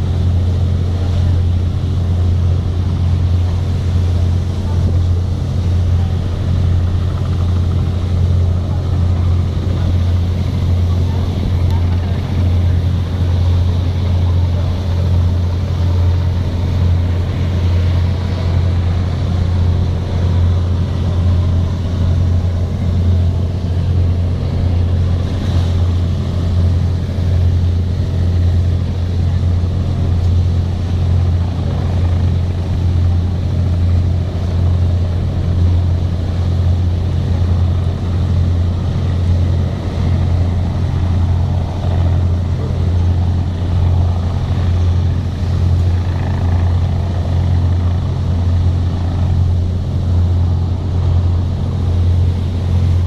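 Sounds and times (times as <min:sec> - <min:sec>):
boat engine drone: 0:00.0 - 0:53.0
water noise: 0:00.0 - 0:53.0
wind noise: 0:00.0 - 0:53.0.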